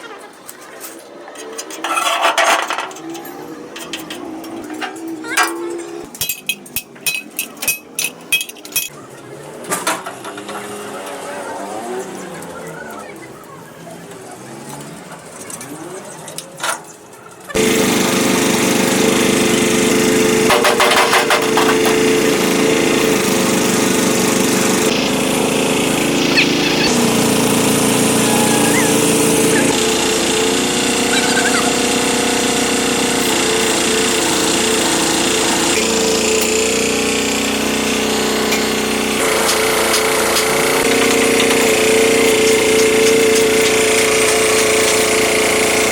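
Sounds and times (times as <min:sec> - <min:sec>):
tractor engine rattling: 0:00.2 - 0:11.3, 0:12.1 - 0:45.9.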